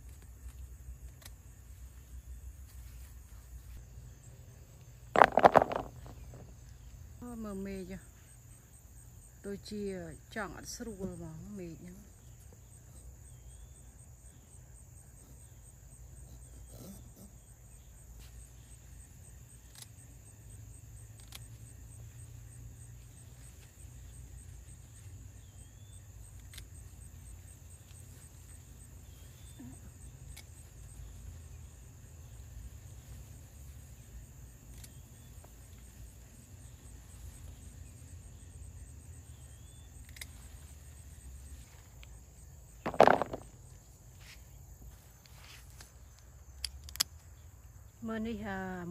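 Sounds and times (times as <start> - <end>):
crickets chirring: 0.0 - 48.9.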